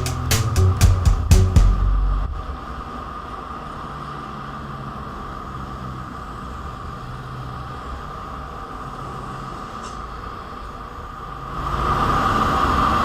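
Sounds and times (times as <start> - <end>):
road and wind noise: 0.0 - 13.0
vehicle engine drone: 0.0 - 13.0.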